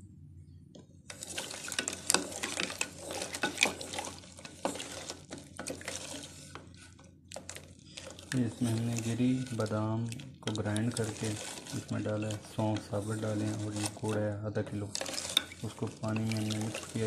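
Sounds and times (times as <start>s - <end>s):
wooden spatula stirring in metal pot: 1.1s - 17.0s.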